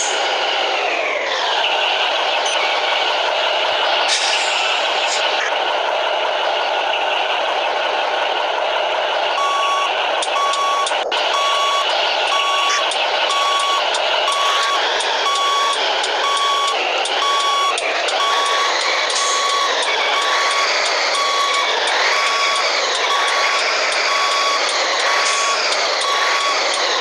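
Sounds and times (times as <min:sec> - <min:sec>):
diesel truck engine running: 0:00.0 - 0:27.0
truck reversing alarm beeping: 0:01.6 - 0:07.8, 0:08.4 - 0:27.0.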